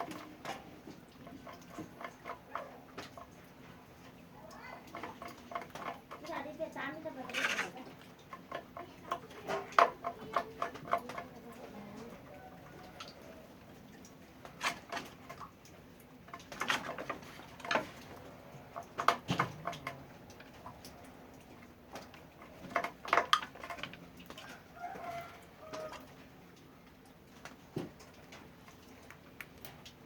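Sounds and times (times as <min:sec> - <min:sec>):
faint steady background noise: 0:00.0 - 0:30.0.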